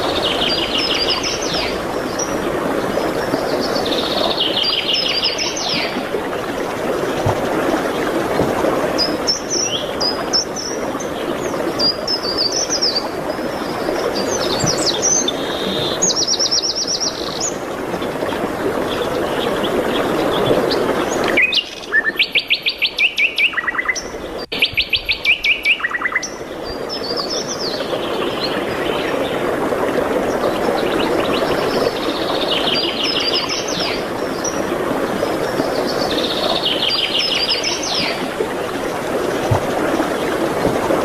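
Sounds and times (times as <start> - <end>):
songbirds singing: 0.0 - 29.5, 30.1 - 40.4.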